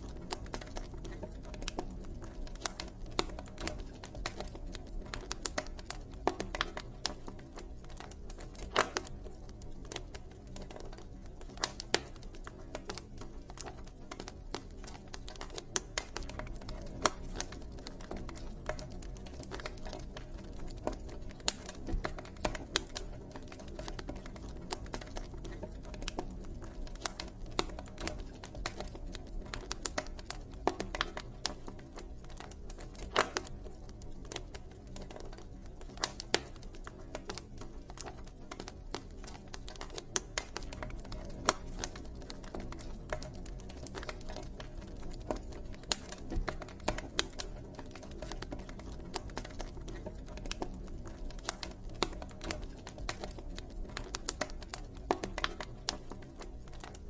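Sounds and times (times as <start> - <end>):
low rumble of burning fire: 0.0 - 57.0
wood fire pops and snaps: 0.0 - 57.0.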